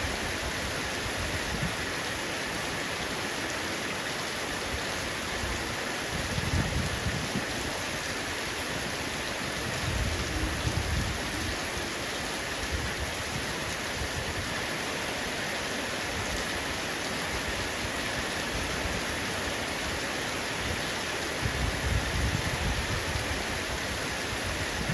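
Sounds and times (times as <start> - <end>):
heavy rain on a roof: 0.0 - 24.9.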